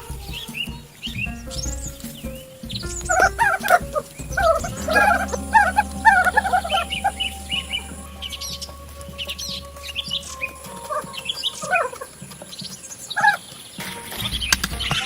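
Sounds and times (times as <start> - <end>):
birds chirping and trilling: 0.2 - 15.0.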